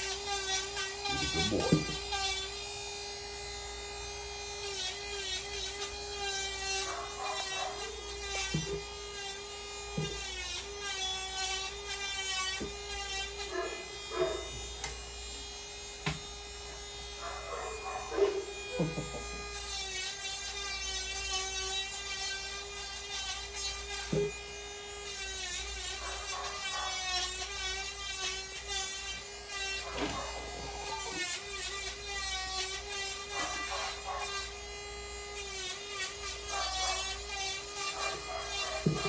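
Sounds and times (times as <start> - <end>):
electric clippers humming: 0.0 - 39.0.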